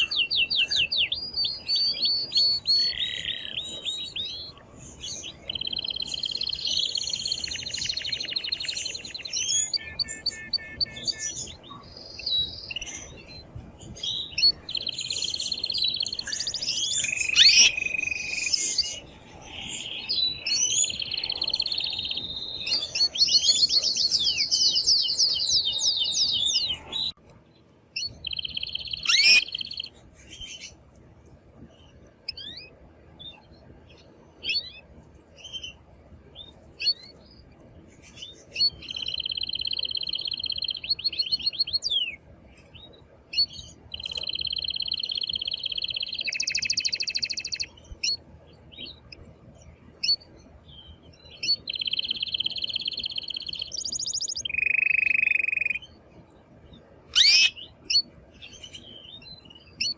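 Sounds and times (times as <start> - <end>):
canary singing trills: 0.0 - 27.2, 28.0 - 30.8, 36.4 - 42.2, 42.8 - 49.2, 49.9 - 56.0, 56.7 - 59.9.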